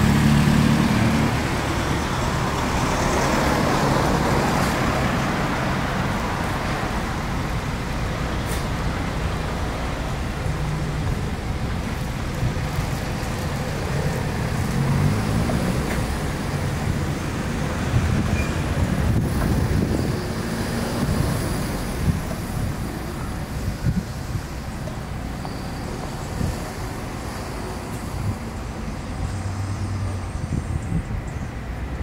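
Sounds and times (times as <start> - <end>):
traffic rumble: 0.0 - 32.0.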